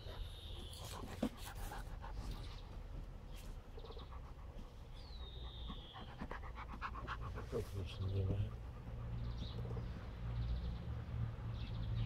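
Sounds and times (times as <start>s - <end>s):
dog panting: 0.0s - 10.1s.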